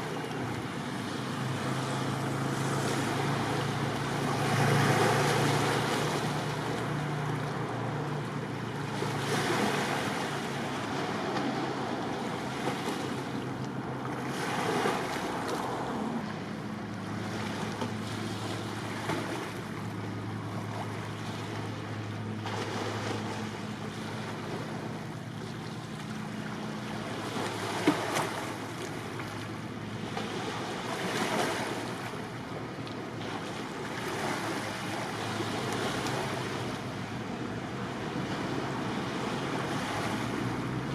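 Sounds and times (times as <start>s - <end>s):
sea water washing and surging: 0.0s - 40.9s
ship engine hum: 0.0s - 40.9s.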